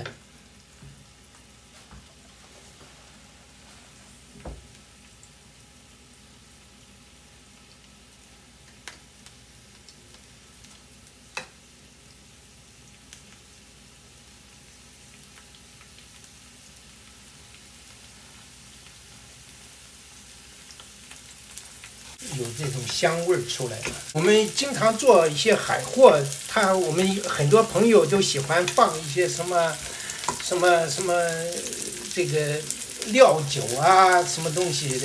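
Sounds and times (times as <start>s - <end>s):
garlic sizzling in a pan: 0.0s - 35.0s.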